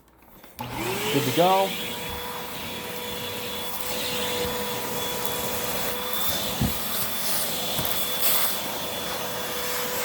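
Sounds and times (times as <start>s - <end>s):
vacuum cleaner running: 0.1s - 10.0s.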